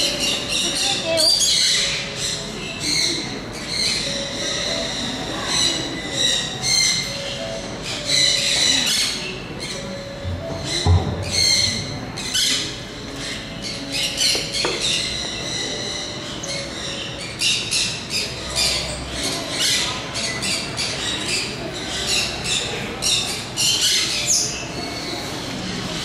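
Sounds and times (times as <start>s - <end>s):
birds squawking and chirping: 0.0s - 26.0s.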